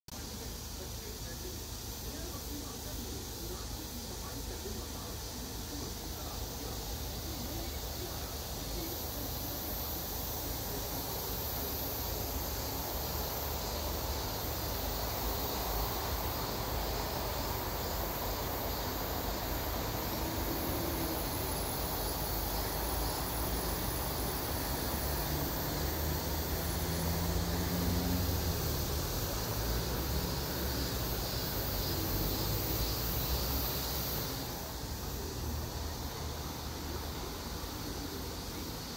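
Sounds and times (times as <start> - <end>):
cicada buzzing: 0.1 - 38.9.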